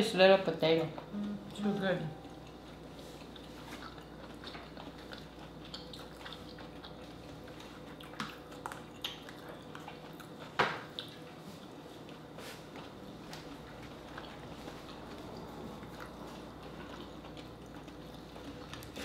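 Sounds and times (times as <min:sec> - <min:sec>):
chewing: 0:02.2 - 0:19.0.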